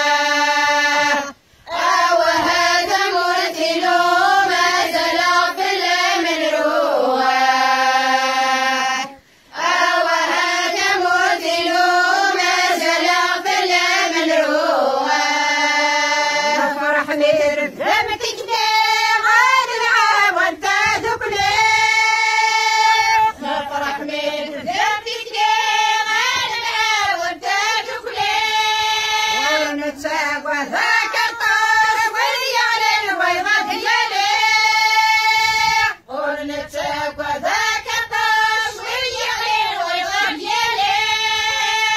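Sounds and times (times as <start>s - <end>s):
women and girls singing together: 0.0s - 41.9s.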